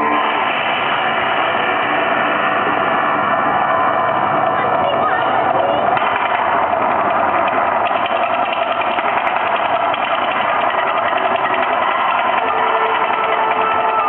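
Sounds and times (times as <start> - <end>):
loud steady rushing roar: 0.0 - 14.0.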